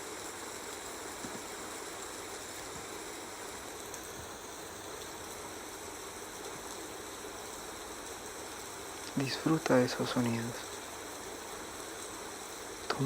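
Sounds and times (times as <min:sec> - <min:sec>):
hiss of water: 0:00.0 - 0:13.0.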